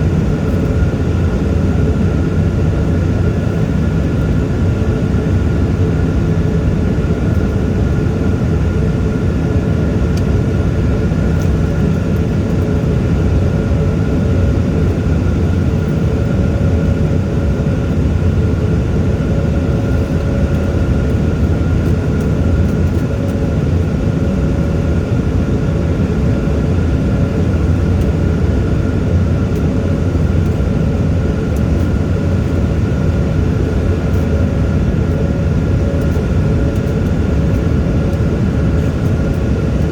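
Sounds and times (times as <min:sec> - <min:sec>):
faint steady whining tones: 0:00.0 - 0:39.9
jet engine and airflow noise: 0:00.0 - 0:39.9.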